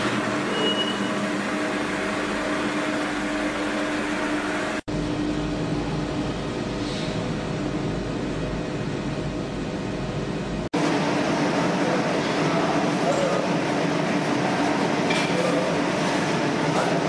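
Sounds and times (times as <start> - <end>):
electric arc furnace noise: 0.0 - 17.0
electrical hum: 0.0 - 17.0.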